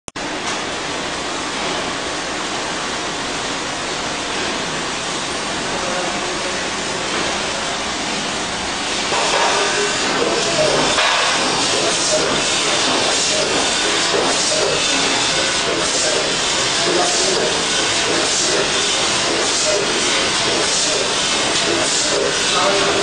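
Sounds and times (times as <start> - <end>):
conveyor rushing and rattling: 1.4 - 23.0.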